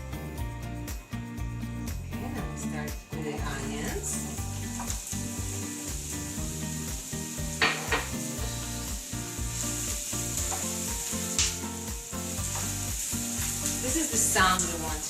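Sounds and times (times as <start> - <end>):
onions sizzling in oil: 1.2 - 15.0.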